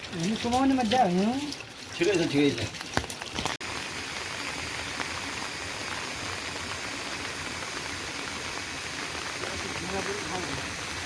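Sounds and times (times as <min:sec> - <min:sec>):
steady water noise: 0:00.0 - 0:11.0.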